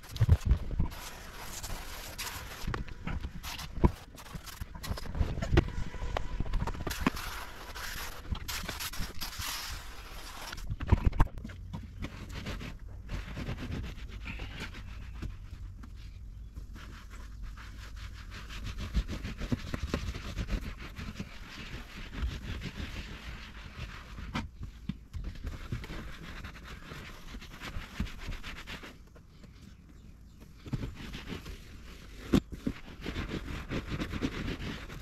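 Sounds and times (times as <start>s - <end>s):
hand scrubbing car interior: 0.9s - 10.6s, 12.0s - 29.7s, 30.3s - 35.0s.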